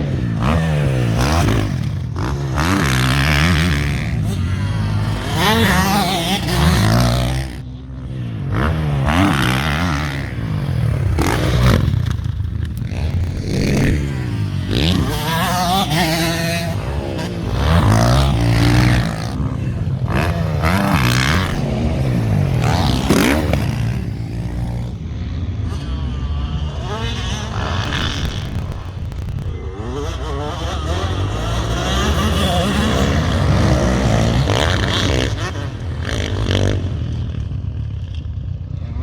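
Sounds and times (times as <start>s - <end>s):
motocross motorcycle engines revving: 0.0s - 39.0s.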